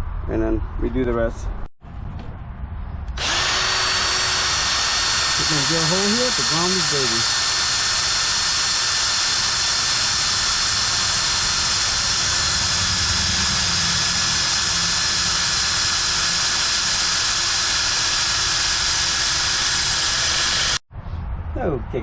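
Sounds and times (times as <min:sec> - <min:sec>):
power drill whining: 0:03.2 - 0:20.8.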